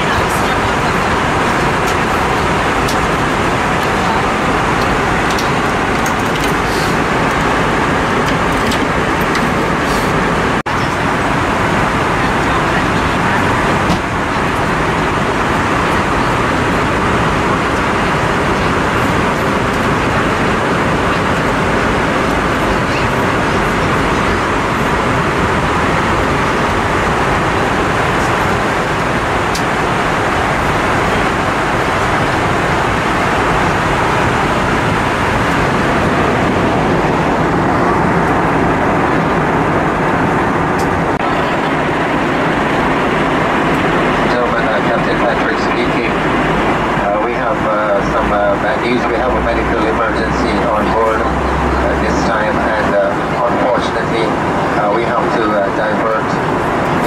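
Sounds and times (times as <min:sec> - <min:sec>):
airplane cabin noise: 0:00.0 - 0:57.0.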